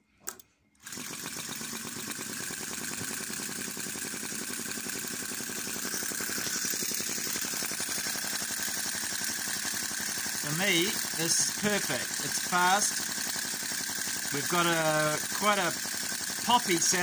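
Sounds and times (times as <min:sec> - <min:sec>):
model engine popping rapidly: 0:00.8 - 0:17.0.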